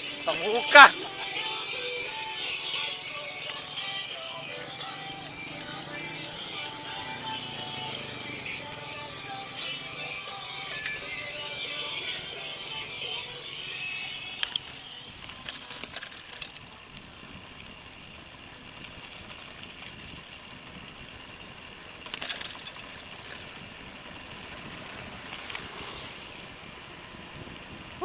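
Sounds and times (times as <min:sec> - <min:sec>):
bicycle tyre and wind noise: 0:01.2 - 0:10.6, 0:12.0 - 0:28.0
bike rattling and clicking: 0:02.3 - 0:11.8, 0:13.8 - 0:28.0.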